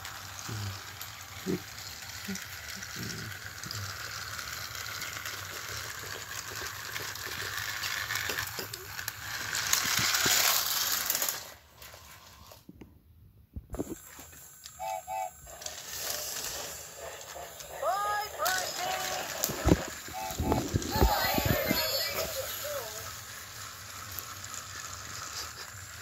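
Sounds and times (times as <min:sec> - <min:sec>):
toy train motor whir: 0:00.0 - 0:12.7, 0:13.8 - 0:26.0
wheels clattering on plastic rails: 0:00.0 - 0:12.7, 0:13.8 - 0:26.0.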